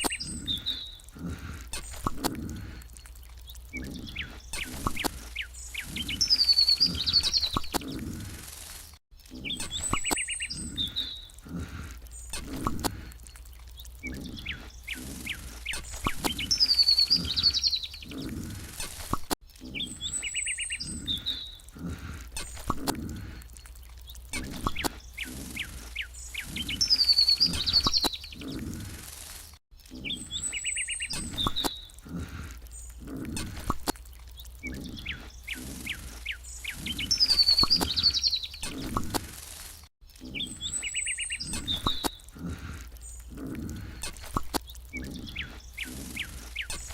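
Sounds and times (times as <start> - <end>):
bird chirping and trilling: 0.0 - 8.6, 9.3 - 29.2, 29.9 - 39.6, 40.2 - 46.9.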